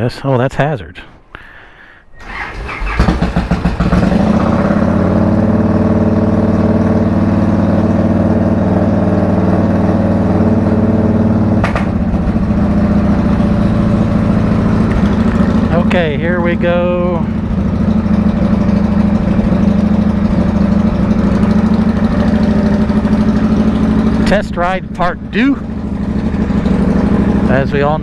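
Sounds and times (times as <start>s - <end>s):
motorcycle engine starting and idling: 1.4s - 28.0s.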